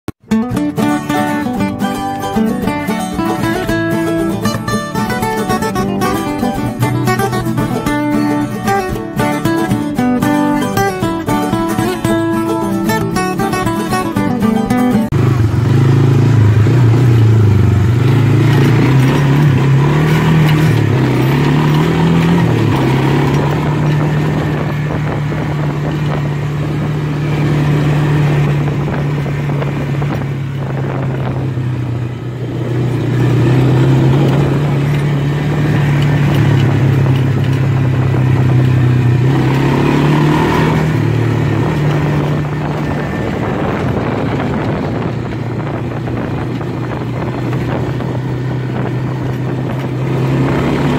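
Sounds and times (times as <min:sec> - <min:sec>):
atv engine running: 0:00.2 - 0:50.9.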